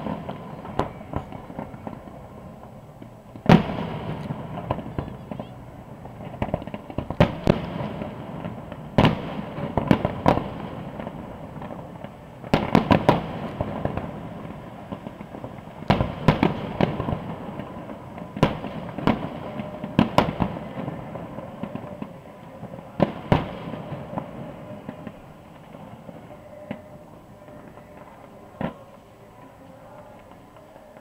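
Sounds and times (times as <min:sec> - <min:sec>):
distant firework bangs: 0:00.0 - 0:31.0.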